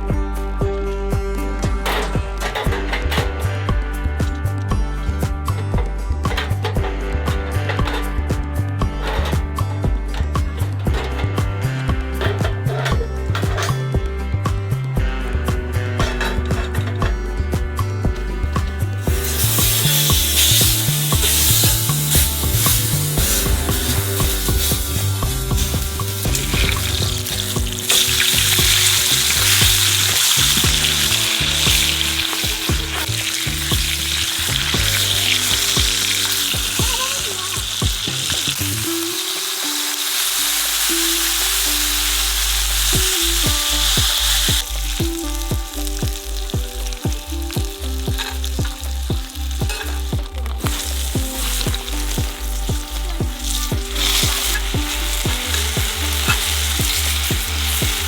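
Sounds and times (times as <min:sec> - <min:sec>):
background music with bass line: 0:00.0 - 0:58.0
food frying and sizzling: 0:00.0 - 0:58.0.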